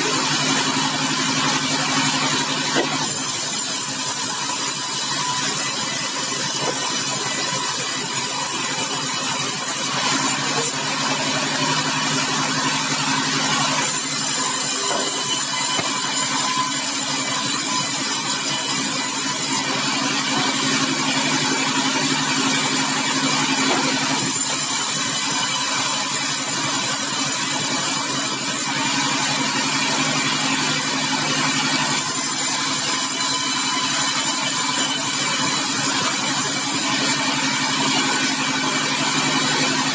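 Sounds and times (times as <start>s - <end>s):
sawmill machinery sawing log: 0.0s - 39.9s.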